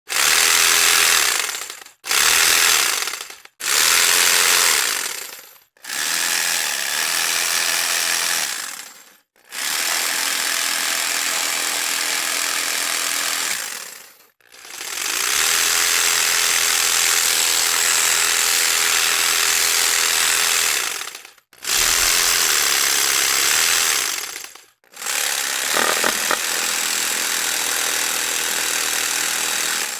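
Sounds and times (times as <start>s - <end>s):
electric jigsaw running: 0.1s - 29.9s.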